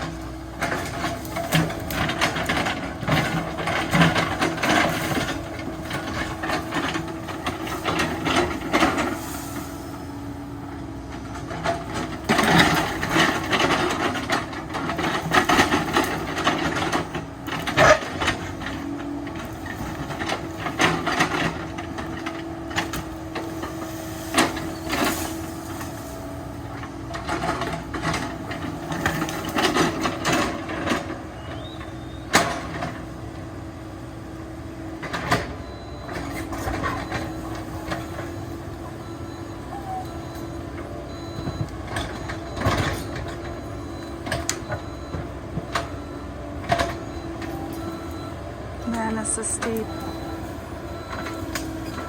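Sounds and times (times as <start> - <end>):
excavator engine and hydraulics: 0.0 - 52.0.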